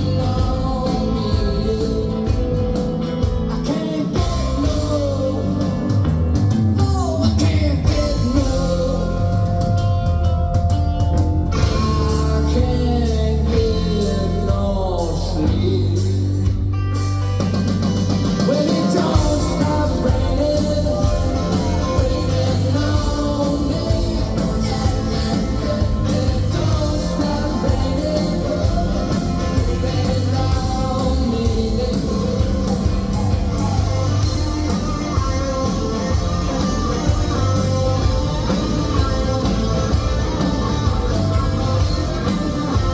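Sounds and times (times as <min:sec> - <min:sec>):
person singing: 0:00.0 - 0:06.0, 0:06.7 - 0:09.8, 0:11.6 - 0:16.6, 0:18.4 - 0:42.9
drums: 0:00.0 - 0:42.9
electric guitar: 0:00.0 - 0:42.9.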